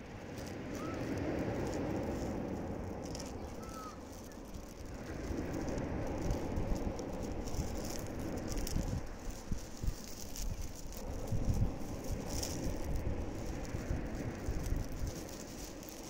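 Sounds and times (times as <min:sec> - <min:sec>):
pebbles rattling in surf: 0:00.0 - 0:16.0
waves breaking on beach: 0:00.0 - 0:16.0.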